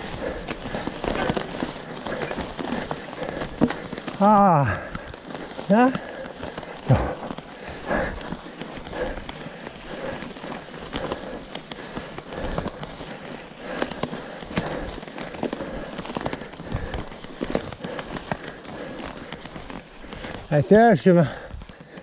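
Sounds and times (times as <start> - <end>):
mountain bike rattling over rough ground: 0.0 - 22.0.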